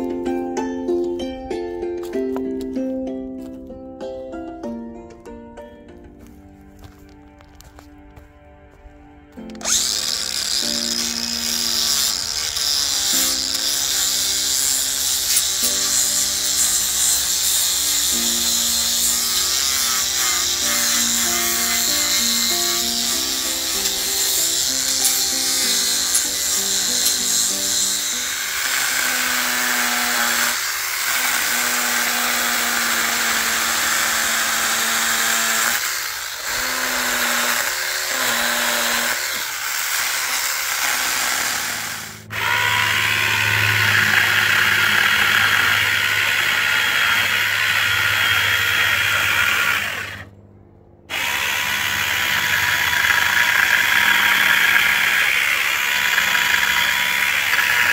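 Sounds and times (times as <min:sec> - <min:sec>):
background music melody: 0:00.0 - 0:57.9
electric chainsaw cutting wood: 0:09.4 - 0:50.4, 0:51.1 - 0:57.9.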